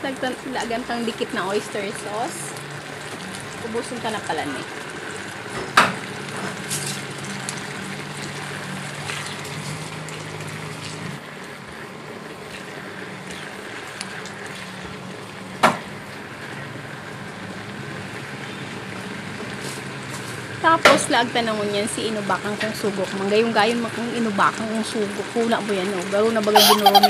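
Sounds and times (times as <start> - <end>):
sauce simmering in a pan: 0.2 - 26.6.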